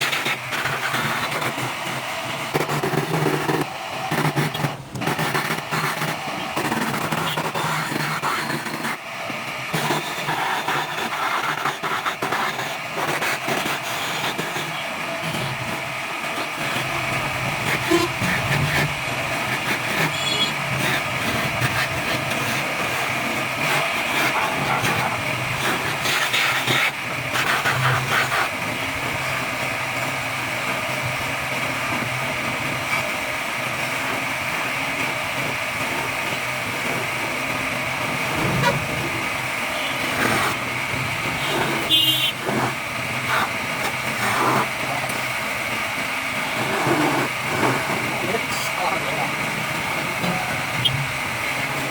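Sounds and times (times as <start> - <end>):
woodworking machine running: 0.0 - 51.9.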